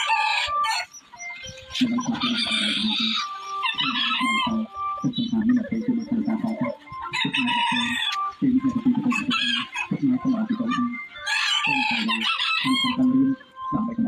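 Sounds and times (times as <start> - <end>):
chickens clucking: 0.0 - 14.0
roosters crowing: 0.0 - 14.0.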